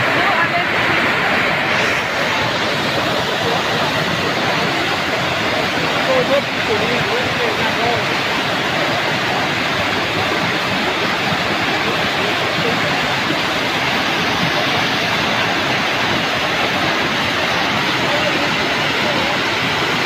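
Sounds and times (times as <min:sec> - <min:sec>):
rain pouring: 0:00.0 - 0:20.0.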